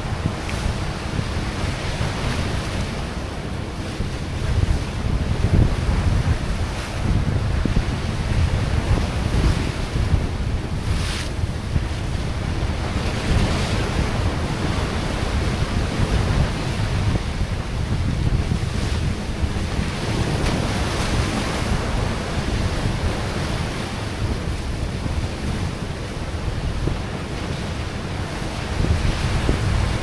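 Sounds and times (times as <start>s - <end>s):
waves washing against rocks: 0.0s - 30.0s
wind buffeting microphone: 0.0s - 30.0s.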